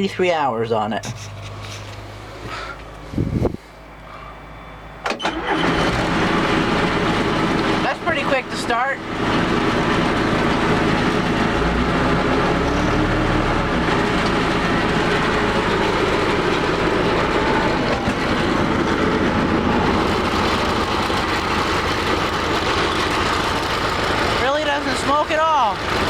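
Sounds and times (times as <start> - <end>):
diesel engine running: 1.0 - 26.0.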